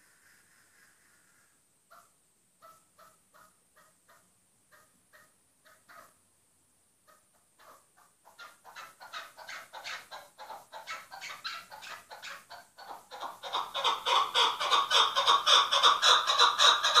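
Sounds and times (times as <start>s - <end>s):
partridge clucking calls: 1.9s - 6.2s, 7.1s - 17.0s.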